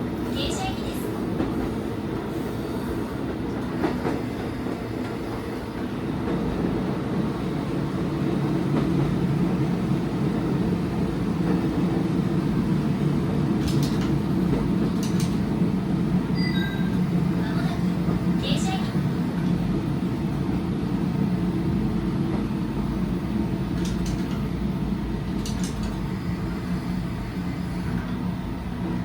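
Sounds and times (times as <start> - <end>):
railcar engine drone: 0.0 - 29.0.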